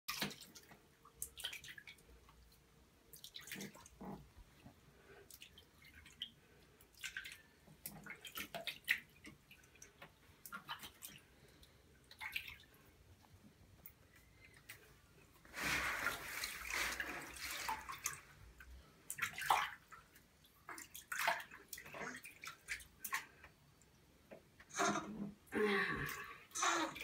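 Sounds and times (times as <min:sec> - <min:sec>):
water splashing and dripping: 0:00.1 - 0:14.9, 0:15.5 - 0:23.6.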